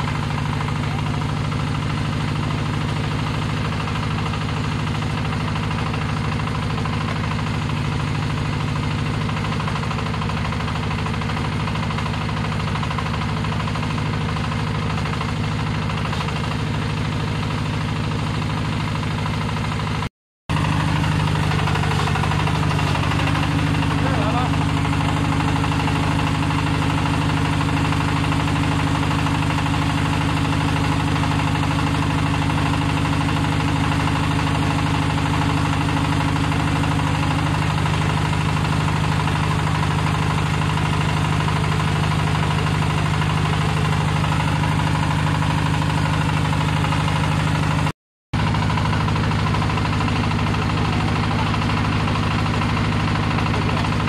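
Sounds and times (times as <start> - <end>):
diesel engine of drilling rig: 0.0 - 54.0.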